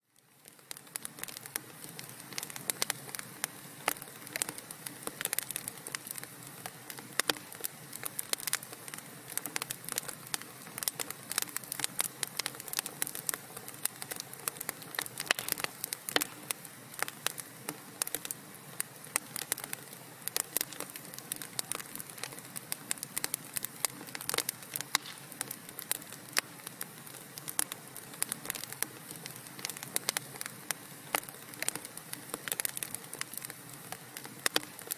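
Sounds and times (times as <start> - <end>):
fire crackles and pops: 0.0 - 34.9
fire soft hiss: 0.1 - 34.9.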